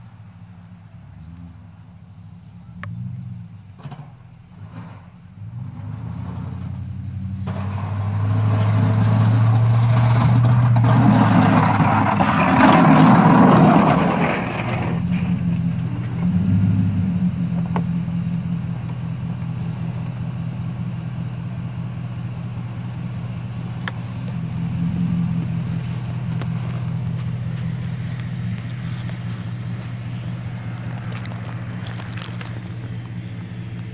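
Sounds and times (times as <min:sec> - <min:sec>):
engine idling: 0:00.0 - 0:33.9
pickup truck engine: 0:00.0 - 0:33.9.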